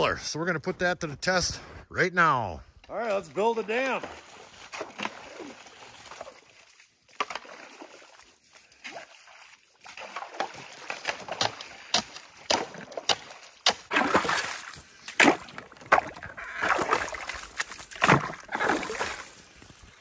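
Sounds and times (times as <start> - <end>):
slush and water splashing: 3.0 - 20.0.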